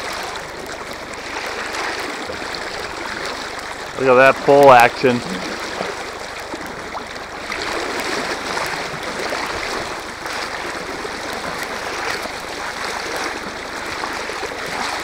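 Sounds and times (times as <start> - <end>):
stream water flowing: 0.0 - 15.0
waders splashing through water: 0.0 - 15.0.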